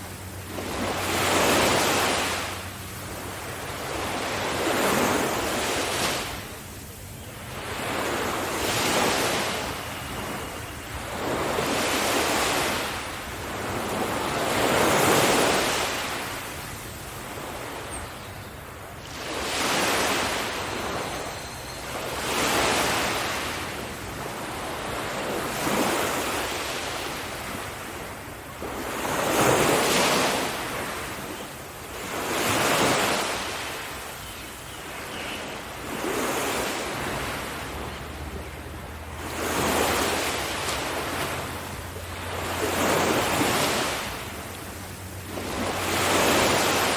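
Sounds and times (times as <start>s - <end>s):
ocean waves breaking: 0.0s - 46.9s
surf hiss: 0.0s - 46.9s.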